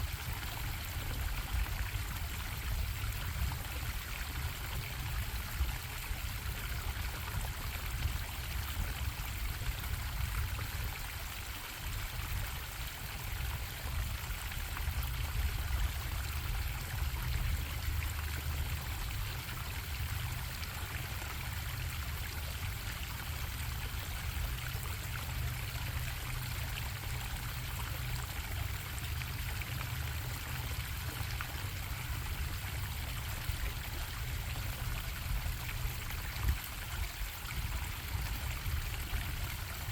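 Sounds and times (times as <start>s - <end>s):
stream water running and bubbling: 0.0s - 39.9s.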